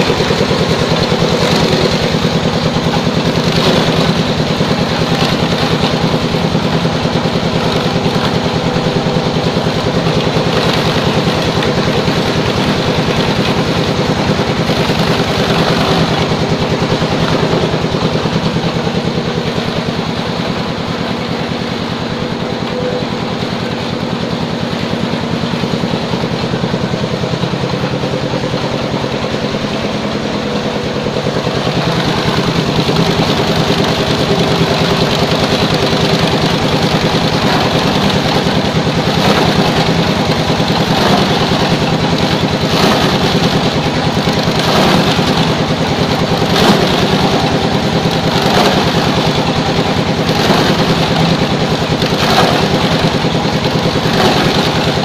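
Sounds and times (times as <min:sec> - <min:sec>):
grinding machine motor hum: 0:00.0 - 0:55.0.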